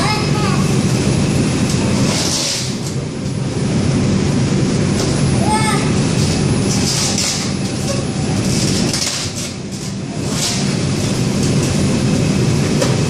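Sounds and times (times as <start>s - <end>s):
subway wheels rumbling on rail: 0.0s - 13.0s.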